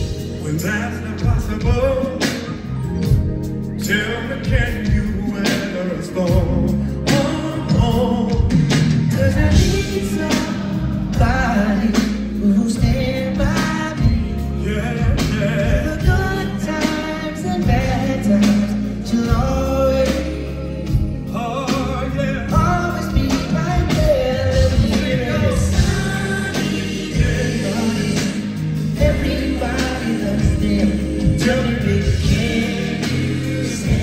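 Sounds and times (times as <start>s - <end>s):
man singing into microphone: 0.0s - 2.6s, 3.8s - 34.0s
band playing: 0.0s - 34.0s.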